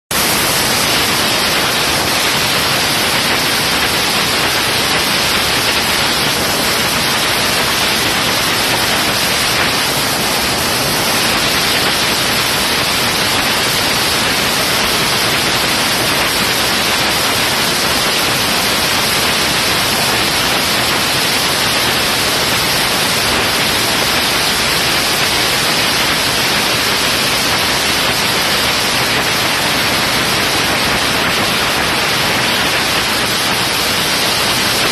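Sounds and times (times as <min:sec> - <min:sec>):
microphone overload hiss: 0:00.1 - 0:34.9.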